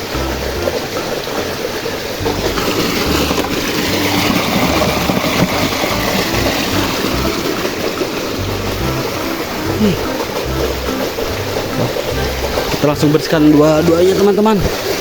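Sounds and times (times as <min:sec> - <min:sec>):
background music: 0:00.0 - 0:14.8
water running and sloshing: 0:00.0 - 0:15.0.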